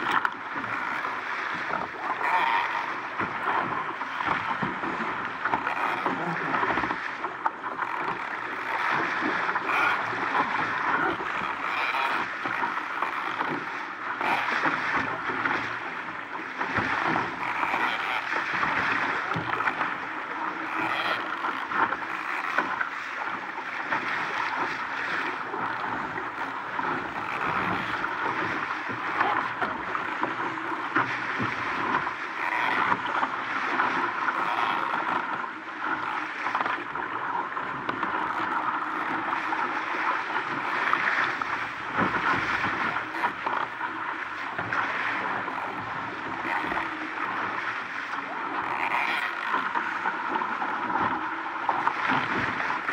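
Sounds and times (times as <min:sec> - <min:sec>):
water rushing along hull: 0:00.0 - 0:52.9
water slapping hull: 0:00.0 - 0:52.9.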